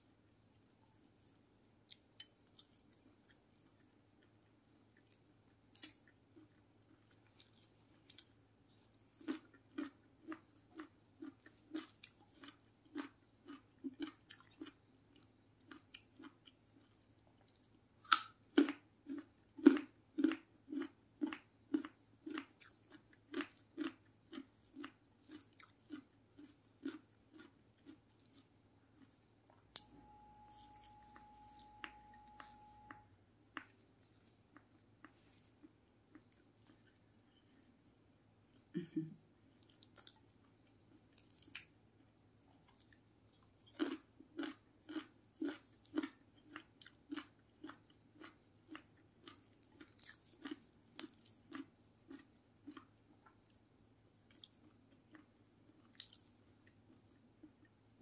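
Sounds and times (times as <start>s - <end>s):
close-miked chewing: 0.5s - 37.0s, 42.4s - 53.6s, 54.2s - 57.8s.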